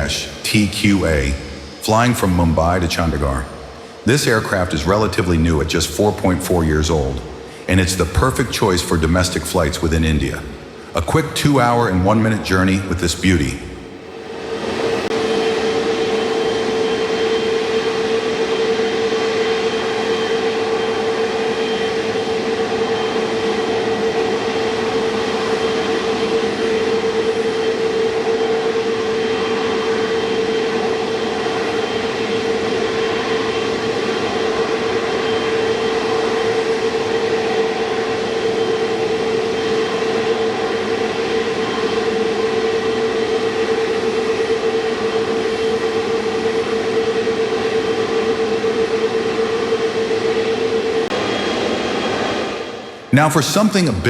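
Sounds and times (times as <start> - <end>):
jet engines running steadily: 0.0 - 54.0.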